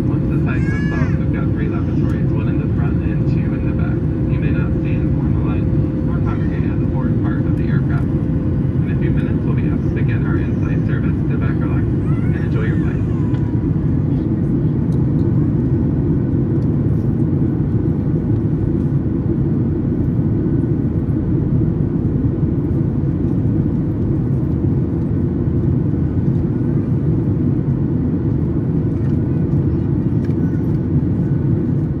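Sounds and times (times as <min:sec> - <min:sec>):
airplane cabin engine drone: 0:00.0 - 0:32.0.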